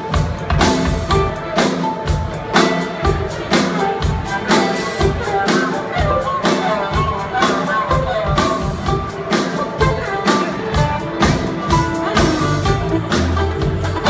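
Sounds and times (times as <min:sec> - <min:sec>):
drum kit beat: 0:00.0 - 0:14.0
live string band playing: 0:00.0 - 0:14.0.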